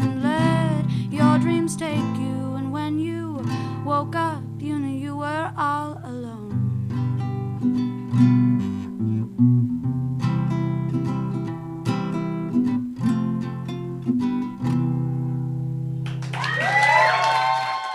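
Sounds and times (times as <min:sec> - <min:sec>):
acoustic guitar strumming: 0:00.0 - 0:16.1.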